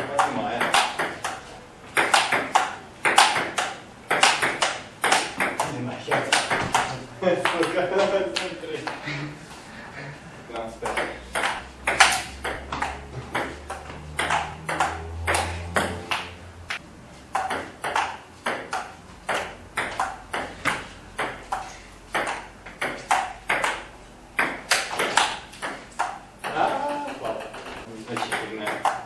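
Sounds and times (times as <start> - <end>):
ping pong ball bouncing on table: 0.0 - 8.1, 10.8 - 29.0
ping pong ball hitting paddles: 0.0 - 9.0, 10.6 - 29.0.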